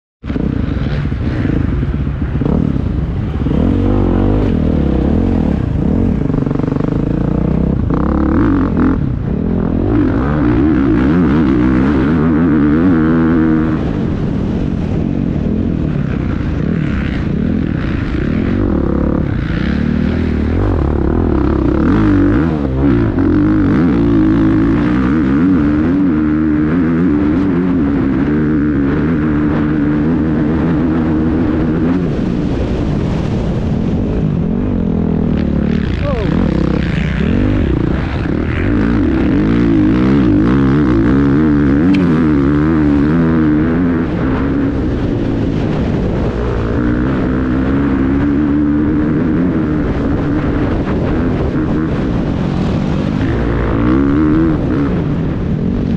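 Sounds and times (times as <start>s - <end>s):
dirt bike engine revving: 0.2s - 55.9s.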